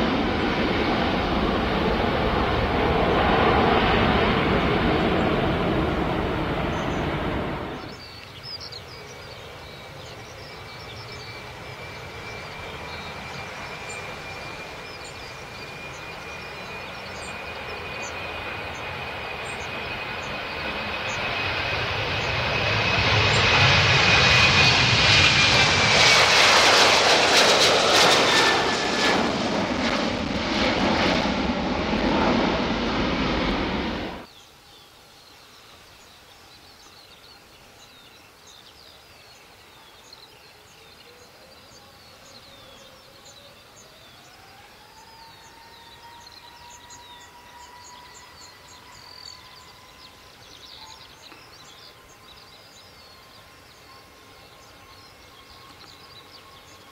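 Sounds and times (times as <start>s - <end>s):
jet engines roaring: 0.0s - 34.3s, 42.8s - 56.9s.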